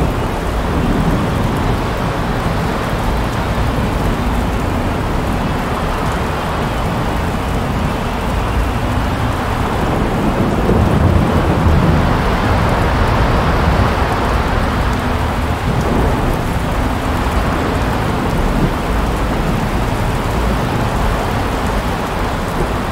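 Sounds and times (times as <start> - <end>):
heavy low rumble: 0.0 - 22.9
wind and rain rushing: 0.0 - 22.9.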